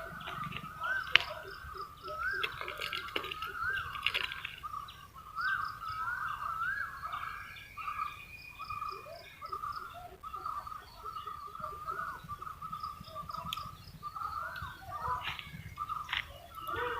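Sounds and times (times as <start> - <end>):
birds calling and chirping: 0.0 - 16.9.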